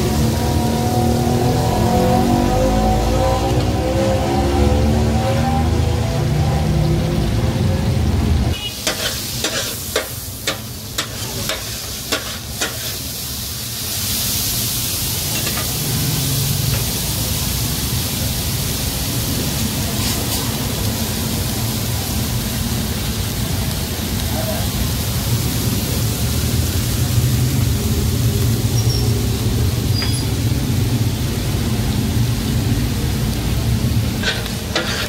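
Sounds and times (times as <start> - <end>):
sizzling hiss: 0.0 - 35.0.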